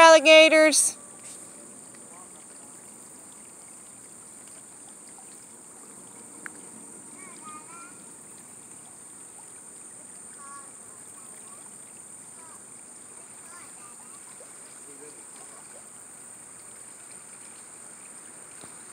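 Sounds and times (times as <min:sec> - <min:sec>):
constant high hiss: 0:00.0 - 0:18.9
flowing river water: 0:00.0 - 0:18.9.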